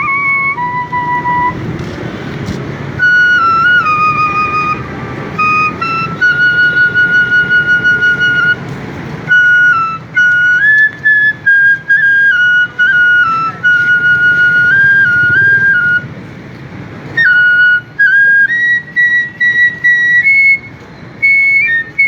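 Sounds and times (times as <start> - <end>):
bamboo flute melody: 0.0 - 16.2, 17.1 - 22.0.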